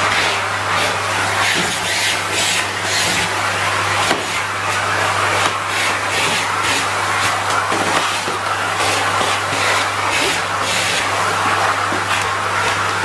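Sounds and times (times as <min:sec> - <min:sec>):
vacuum cleaner motor hum: 0:00.0 - 0:13.0.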